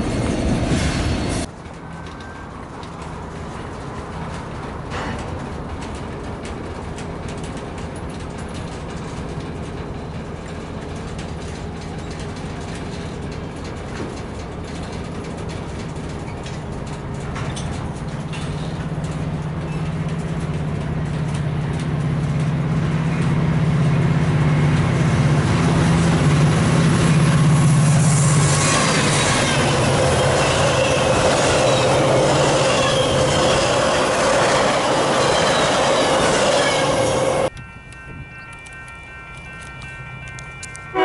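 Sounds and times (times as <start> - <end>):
diesel locomotive hum: 0.0 - 41.0
freight train cars rolling: 0.0 - 41.0
train wheel and rail noise: 0.0 - 41.0.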